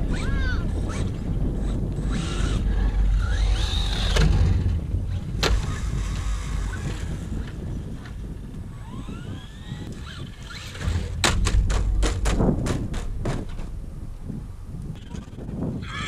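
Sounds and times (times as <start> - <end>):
electric motor whining: 0.0 - 15.2
wind on microphone: 0.0 - 16.0.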